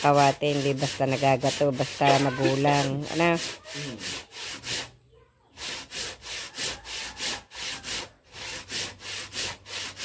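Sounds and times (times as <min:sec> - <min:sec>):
handsaw cutting wood: 0:00.0 - 0:10.0.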